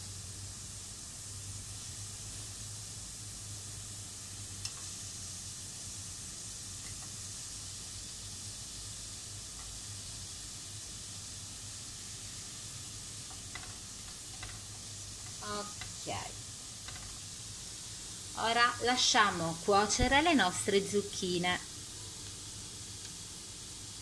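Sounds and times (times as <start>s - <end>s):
zucchini sizzling on grill pan: 0.0s - 24.0s.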